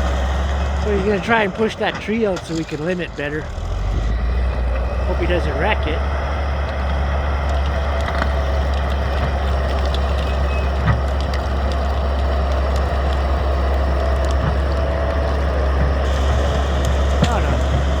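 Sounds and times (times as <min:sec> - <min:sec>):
bulldozer diesel engine running: 0:00.0 - 0:18.0
cracks and clanks: 0:00.0 - 0:18.0.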